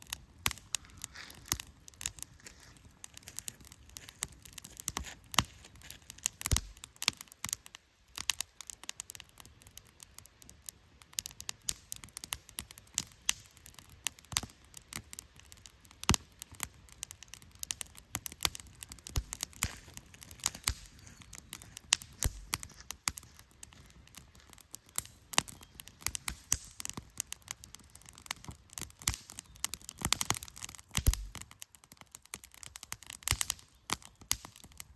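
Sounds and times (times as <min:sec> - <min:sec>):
campfire crackling and popping: 0:00.0 - 0:34.9
low hiss of fire: 0:00.0 - 0:34.9.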